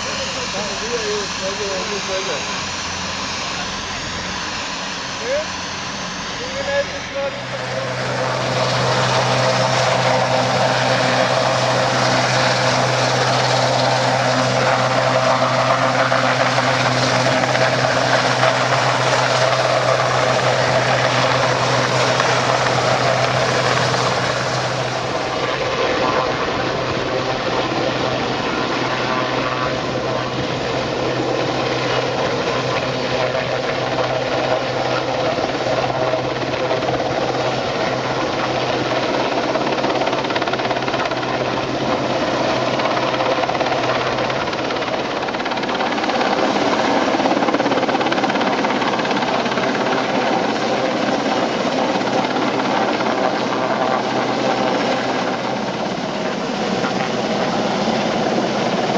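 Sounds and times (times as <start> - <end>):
helicopter rotor and engine hum: 0.0 - 58.9.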